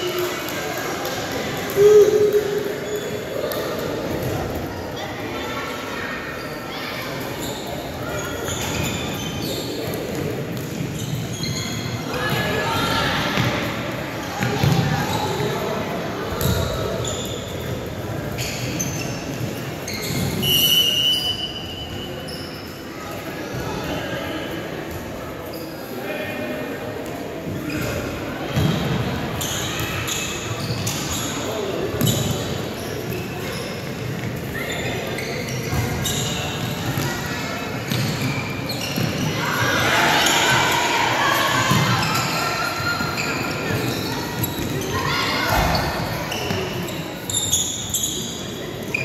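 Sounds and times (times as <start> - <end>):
sneakers squeaking on gym floor: 1.0 - 5.1, 6.2 - 12.6, 14.3 - 15.7, 16.3 - 23.7, 24.9 - 26.0, 27.4 - 49.0.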